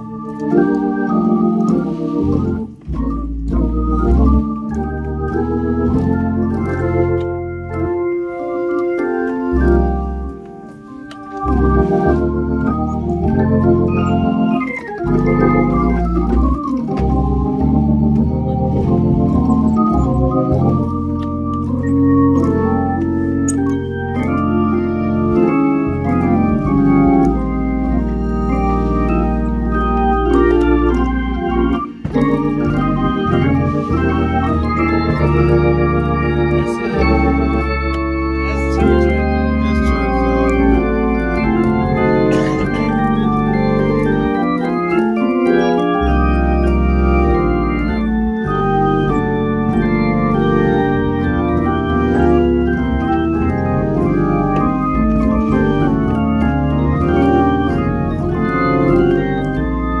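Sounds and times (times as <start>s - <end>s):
deep organ bass notes: 0.0s - 60.0s
gospel organ chords: 0.0s - 60.0s.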